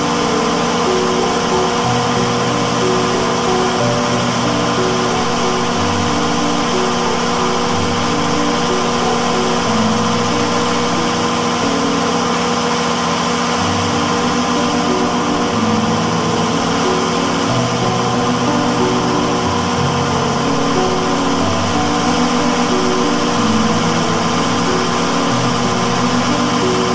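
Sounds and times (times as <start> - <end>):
generator engine running: 0.0 - 26.9.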